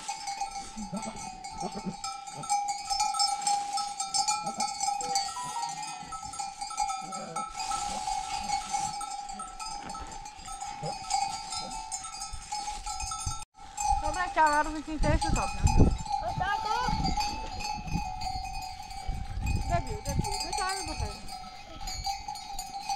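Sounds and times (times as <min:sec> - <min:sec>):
livestock bells clanking: 0:00.0 - 0:22.9.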